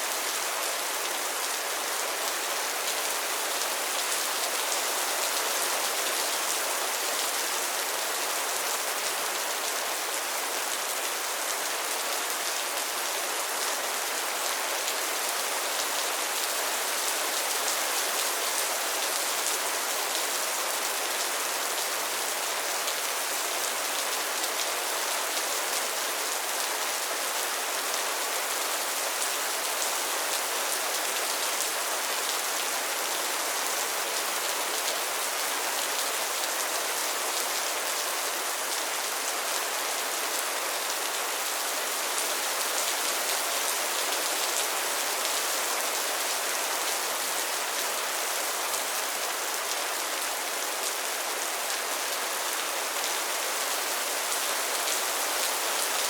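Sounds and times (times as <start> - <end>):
rain falling on pond water: 0.0 - 56.0.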